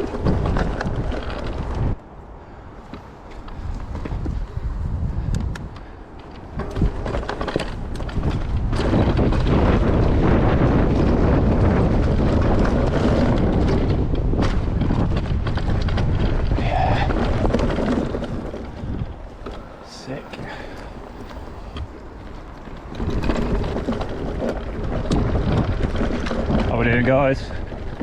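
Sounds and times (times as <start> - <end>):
bike tyre noise on trail: 0.0 - 28.0
clattering rattles of bike: 0.0 - 28.0
wind rumbling on microphone: 0.0 - 28.0.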